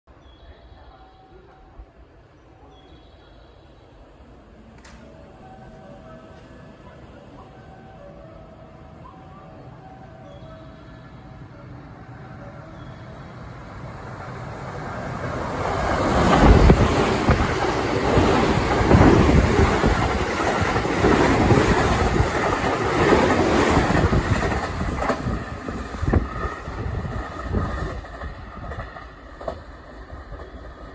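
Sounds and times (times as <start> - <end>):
electric train passing: 0.4 - 30.9.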